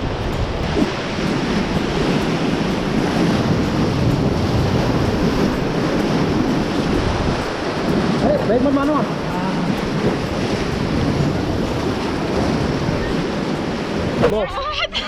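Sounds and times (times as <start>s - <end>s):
river rapids rushing: 0.0s - 15.0s
wind buffeting microphone: 0.0s - 15.0s.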